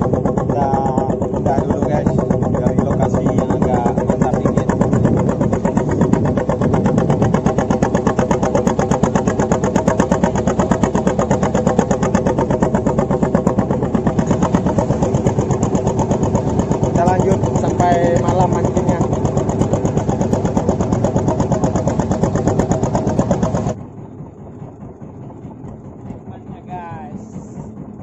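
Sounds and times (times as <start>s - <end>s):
boat engine chugging: 0.0s - 28.0s.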